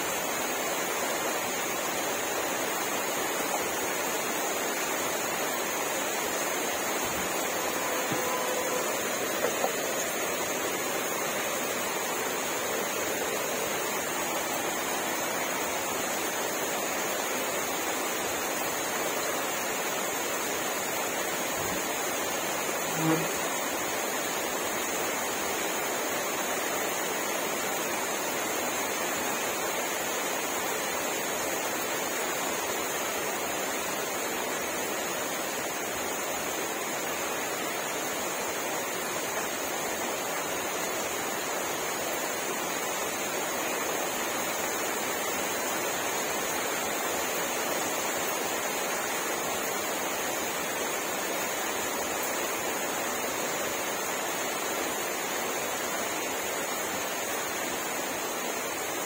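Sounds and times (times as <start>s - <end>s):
steady rain falling: 0.0s - 59.0s
thin high-pitched hiss: 0.0s - 59.0s.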